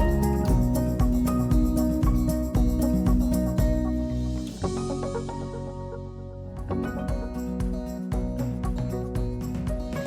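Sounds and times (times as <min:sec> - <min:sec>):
background music with sustained notes: 0:00.0 - 0:10.0.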